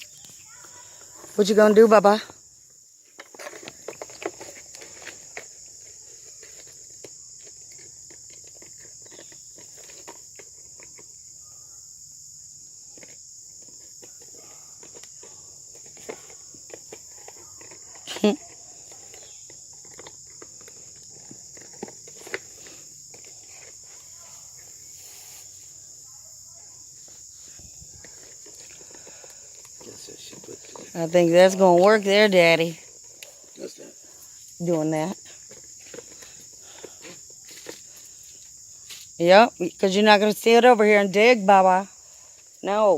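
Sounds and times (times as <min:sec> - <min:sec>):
insect chorus: 0:00.0 - 0:42.9.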